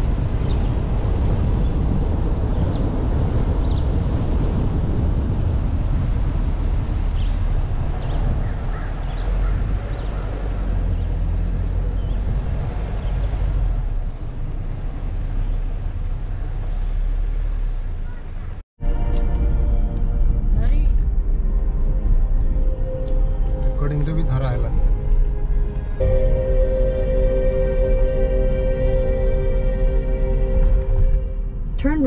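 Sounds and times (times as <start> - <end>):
car road and wind rumble: 0.0 - 32.0.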